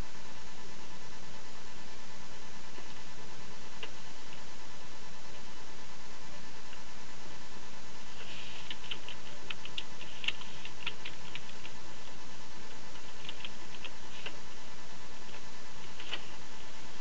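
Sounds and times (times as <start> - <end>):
background hiss: 0.0 - 17.0
faint steady tone: 0.0 - 17.0.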